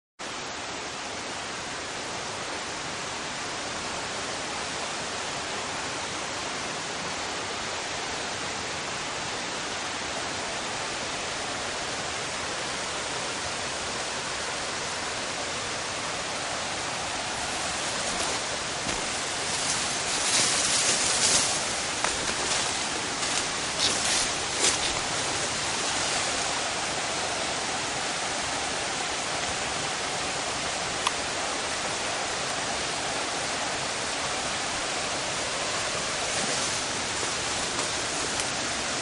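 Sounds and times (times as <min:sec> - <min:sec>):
waterfall rushing: 0:00.2 - 0:39.0.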